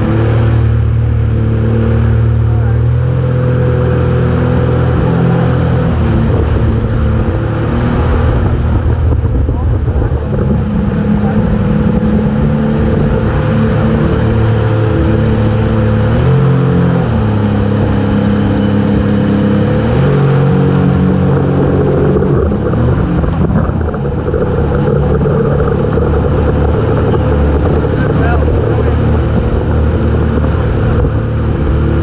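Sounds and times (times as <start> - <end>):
churning wake water: 0.0 - 32.0
motorboat engine running: 0.0 - 32.0
wind on microphone: 3.2 - 32.0.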